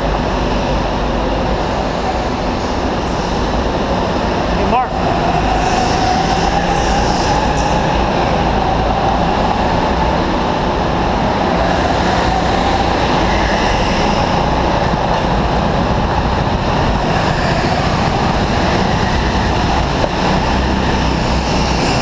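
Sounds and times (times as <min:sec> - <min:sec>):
go-kart engines running: 0:00.0 - 0:22.0.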